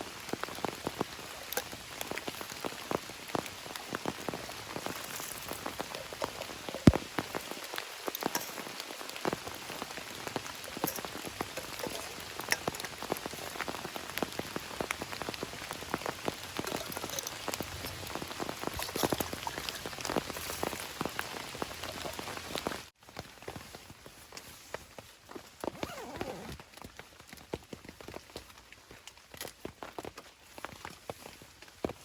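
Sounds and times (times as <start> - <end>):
raindrops striking a surface: 0.0 - 32.0
steady rain falling: 0.0 - 32.0.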